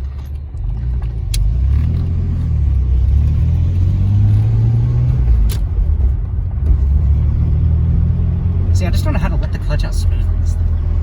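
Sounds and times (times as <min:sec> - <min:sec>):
car engine pulling through gear: 0:00.0 - 0:11.0.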